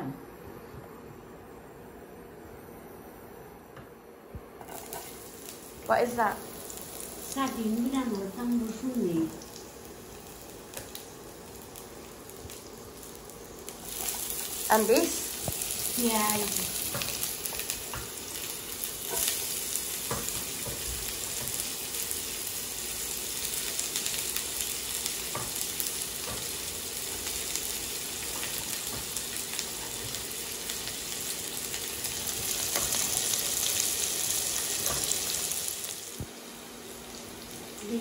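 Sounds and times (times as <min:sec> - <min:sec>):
onion sizzling in hot oil: 0:04.6 - 0:38.0.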